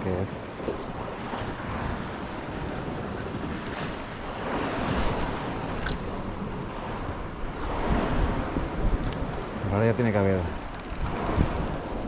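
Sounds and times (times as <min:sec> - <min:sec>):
sea waves washing on shore: 0:00.0 - 0:12.0
wind buffeting microphone: 0:00.0 - 0:12.0.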